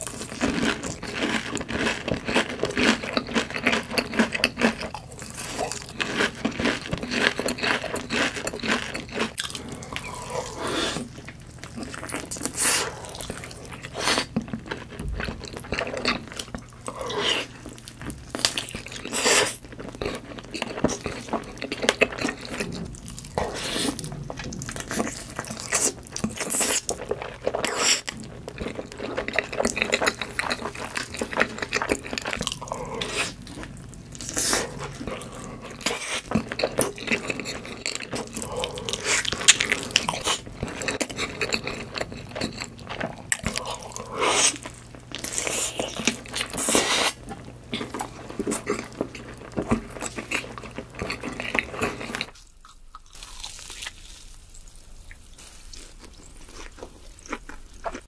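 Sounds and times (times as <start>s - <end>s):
biting and chewing chicken: 0.0s - 58.0s.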